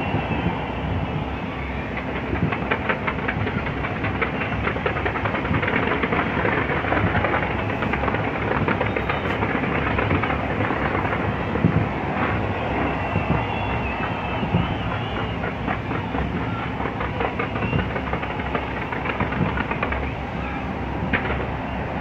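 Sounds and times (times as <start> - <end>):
fireworks bursts rumbling: 0.0 - 22.0
fireworks crackling: 0.0 - 22.0.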